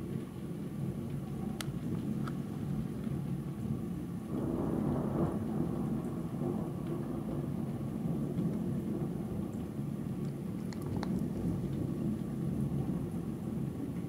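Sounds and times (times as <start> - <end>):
rolling thunder: 0.8 - 14.0.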